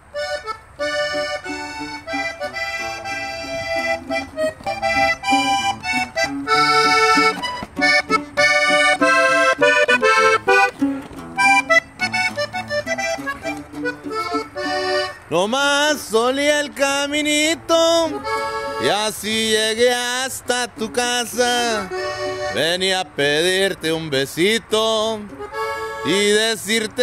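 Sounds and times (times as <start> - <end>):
button accordion melody: 0.0 - 27.0
guitar strumming: 0.0 - 27.0.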